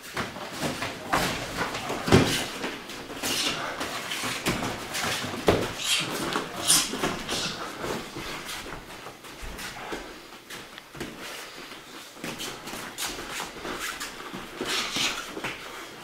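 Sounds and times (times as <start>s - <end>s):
scuffs: 0.0s - 16.0s.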